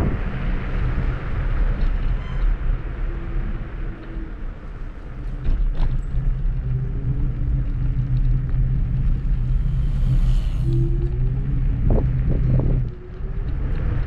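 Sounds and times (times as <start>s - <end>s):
tyres on path: 0.0s - 14.0s
wind on microphone: 0.0s - 14.0s.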